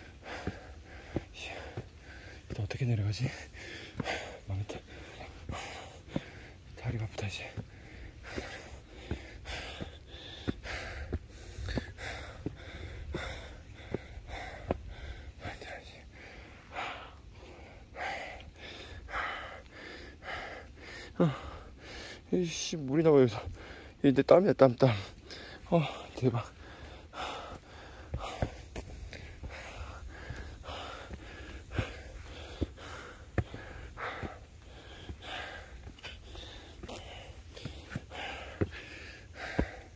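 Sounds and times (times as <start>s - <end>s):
person breathing hard: 0.0s - 2.5s, 3.2s - 6.8s, 7.4s - 22.3s, 23.3s - 24.0s, 24.8s - 39.9s
footsteps on concrete steps: 0.0s - 39.9s.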